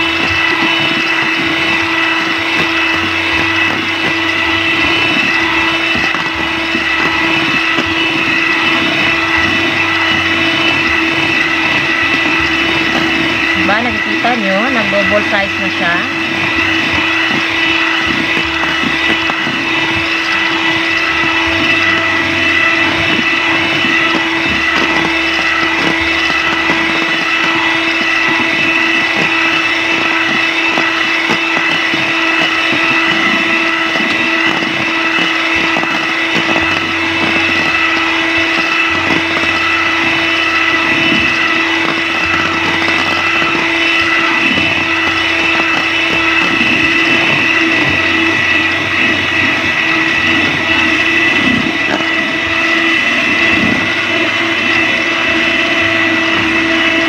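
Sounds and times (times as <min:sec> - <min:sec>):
electric hand mixer whine: 0:00.0 - 0:57.0.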